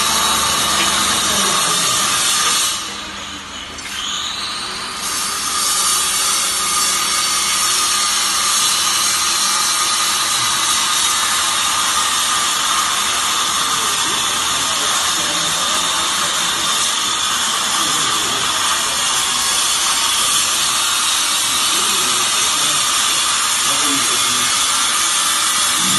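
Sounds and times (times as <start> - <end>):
baler machine whining: 0.0 - 8.4, 10.0 - 25.9.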